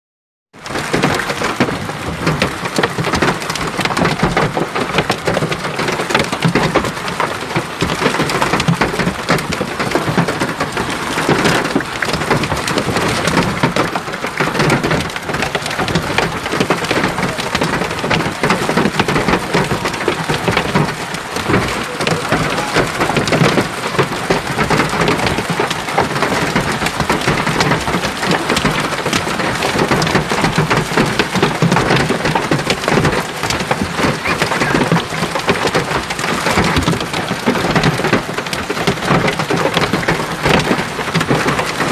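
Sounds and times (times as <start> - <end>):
hail clattering on hard surfaces: 0.5 - 41.9.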